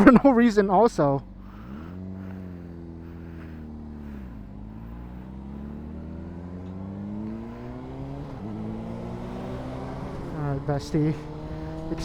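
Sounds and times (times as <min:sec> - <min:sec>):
motorcycle engine pulling: 0:00.0 - 0:12.0.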